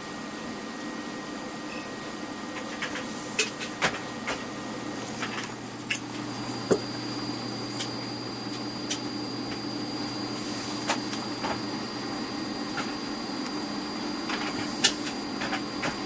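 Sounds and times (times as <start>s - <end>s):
stepper motors humming and whining: 0.0s - 16.0s.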